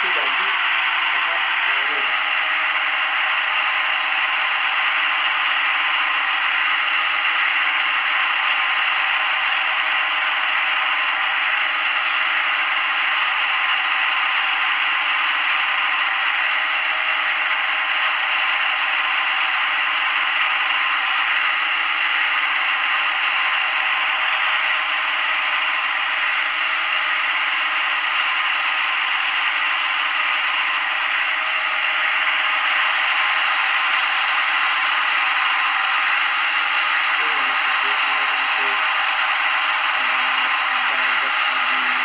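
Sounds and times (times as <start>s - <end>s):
lathe cutting scrape: 0.0s - 42.0s.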